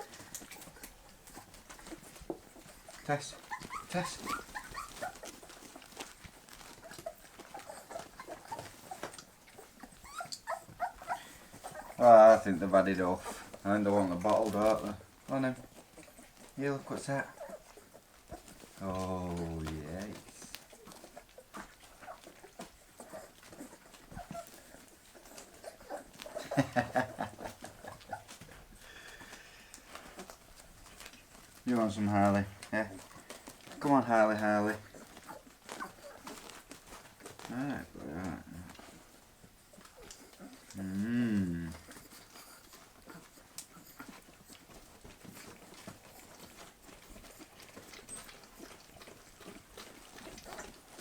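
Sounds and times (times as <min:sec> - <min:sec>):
puppies squeaking and whimpering: 0:00.0 - 0:41.1, 0:41.7 - 0:51.0
puppies eating wet smacking: 0:00.0 - 0:51.0.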